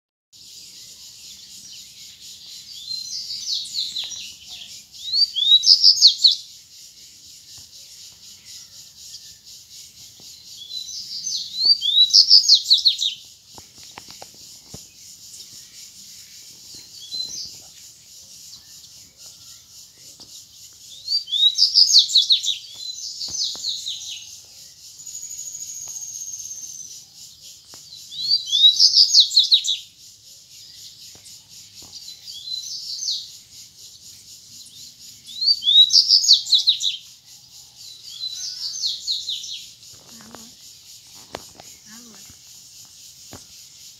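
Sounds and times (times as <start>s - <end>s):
birds twittering: 0.4s - 43.9s.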